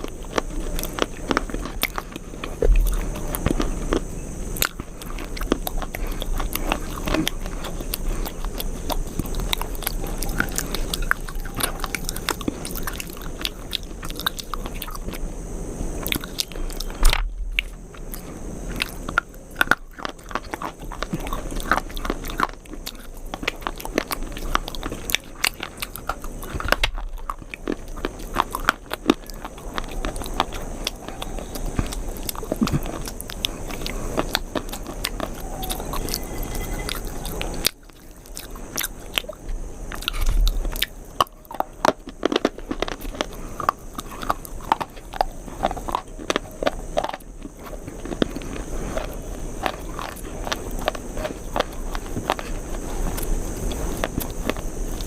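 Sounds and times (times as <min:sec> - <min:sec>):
crunchy food chewing: 0:00.0 - 0:55.0.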